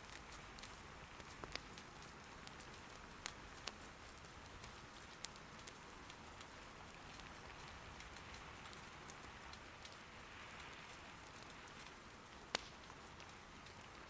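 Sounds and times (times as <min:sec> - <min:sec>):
firewood crackling: 0:00.0 - 0:14.0
soft rain patter: 0:00.0 - 0:14.0.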